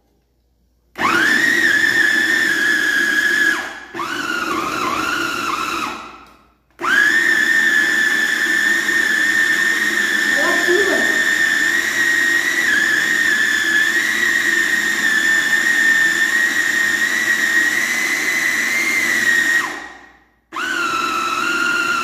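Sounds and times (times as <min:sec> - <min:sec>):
food processor motor whining: 0:01.0 - 0:22.0.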